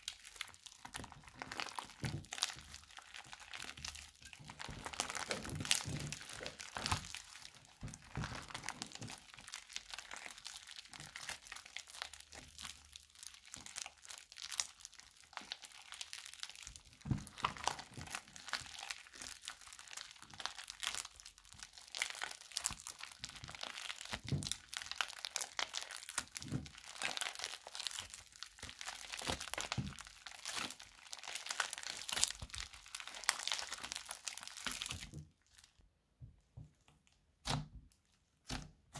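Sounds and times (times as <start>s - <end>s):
slime crackling and popping: 0.0s - 35.8s, 37.0s - 38.9s.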